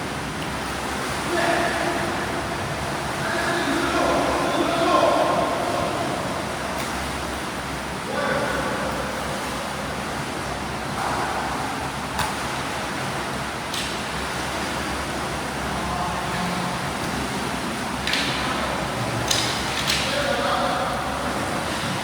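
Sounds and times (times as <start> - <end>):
water churning and splashing: 0.0 - 22.0.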